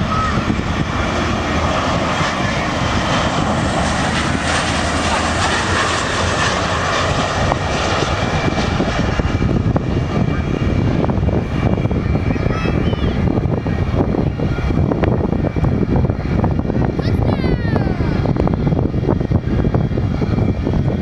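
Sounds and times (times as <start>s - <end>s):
jet engines on approach: 0.0s - 21.0s.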